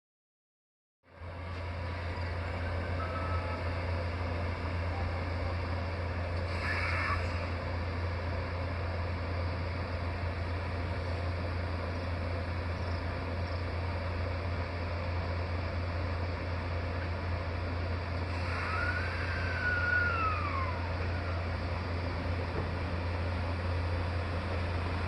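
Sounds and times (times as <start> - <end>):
vehicle running hum: 1.1 - 25.0.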